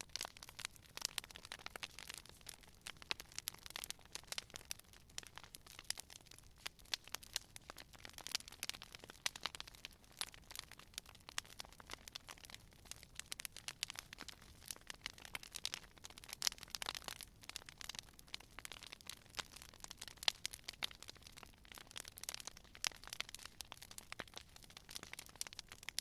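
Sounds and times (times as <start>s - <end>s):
campfire wood crackling: 0.0s - 26.0s.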